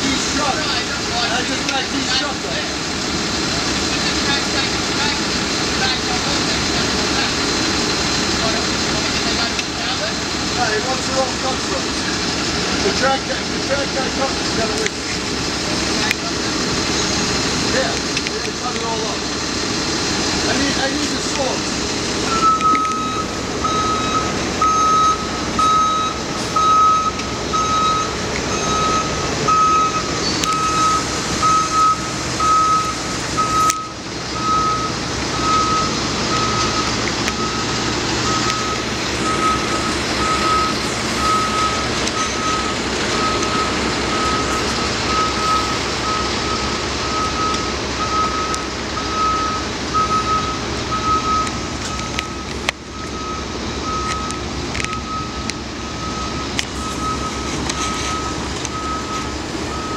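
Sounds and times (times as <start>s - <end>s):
truck engine running: 0.0s - 59.9s
truck reversing alarm beeping: 0.0s - 59.9s.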